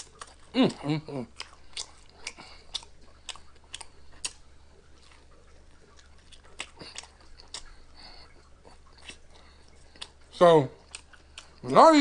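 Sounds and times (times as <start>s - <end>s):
wet mouth clicks: 0.0s - 0.5s, 1.4s - 11.8s
chewing crunchy fried chicken: 0.0s - 12.0s.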